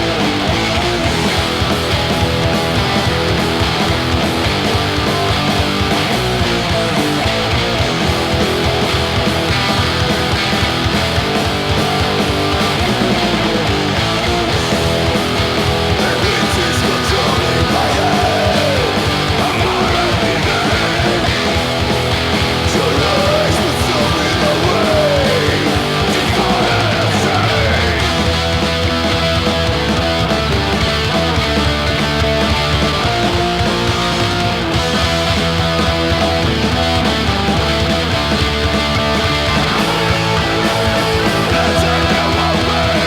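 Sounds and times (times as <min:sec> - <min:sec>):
bass guitar: 0:00.0 - 0:43.0
distorted electric guitars: 0:00.0 - 0:43.0
drums: 0:00.0 - 0:43.0.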